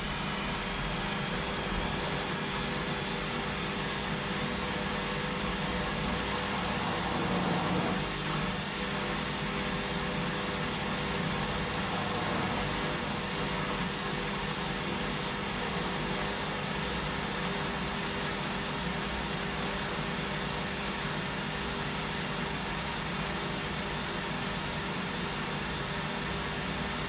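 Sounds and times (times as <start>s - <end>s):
washing machine running: 0.0s - 27.0s.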